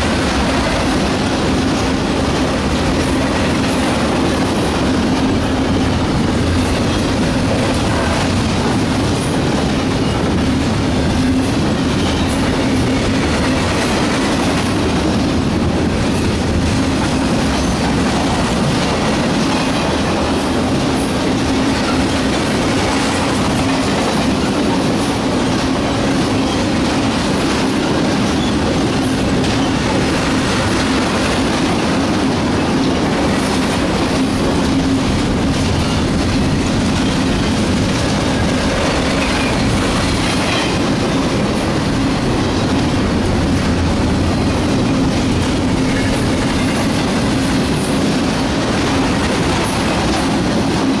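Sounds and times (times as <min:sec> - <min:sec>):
freight train wheels rumbling: 0:00.0 - 0:51.0
wheels clacking over rail joints: 0:00.0 - 0:51.0.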